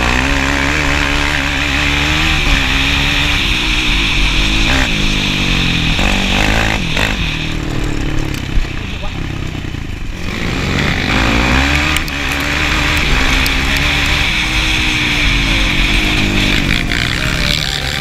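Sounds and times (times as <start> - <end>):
quad engine revving: 0.0 - 18.0.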